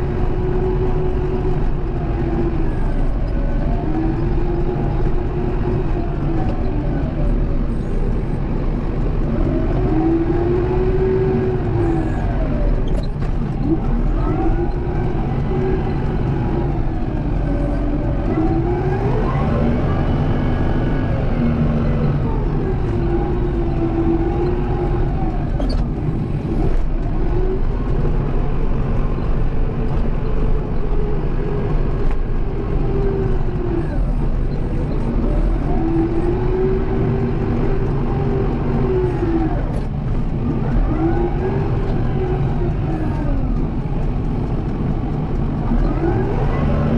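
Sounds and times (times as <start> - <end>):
tractor diesel engine rumbling: 0.0 - 46.9.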